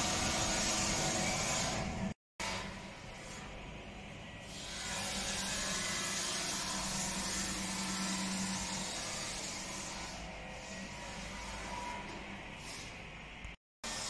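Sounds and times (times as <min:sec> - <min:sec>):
machine hiss and hum: 0:00.0 - 0:14.0.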